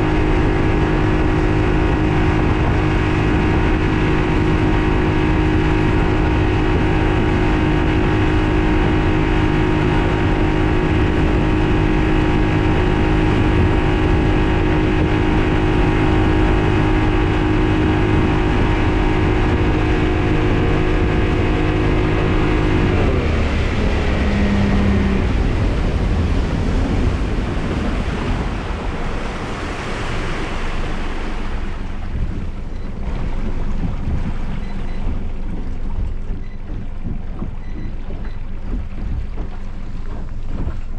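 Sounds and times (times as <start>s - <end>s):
outboard engine running: 0.0s - 40.9s
rush of water and wind: 0.0s - 40.9s.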